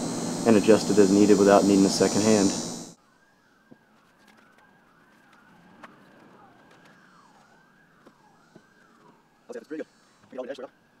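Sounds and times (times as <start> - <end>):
faint siren wailing: 0.0 - 11.0.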